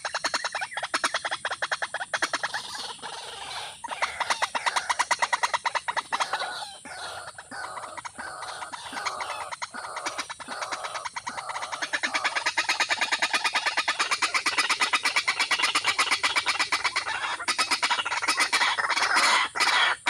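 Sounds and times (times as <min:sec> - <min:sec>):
bird calling in rapid notes: 0:00.0 - 0:20.0.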